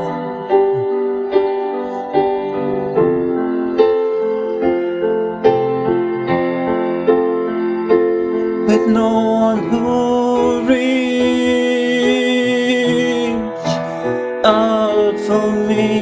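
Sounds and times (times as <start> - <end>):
slow piano ballad: 0.0 - 16.0.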